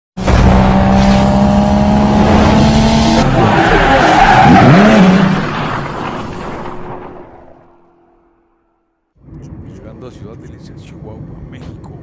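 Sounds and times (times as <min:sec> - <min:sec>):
car engine: 0:00.2 - 0:11.9.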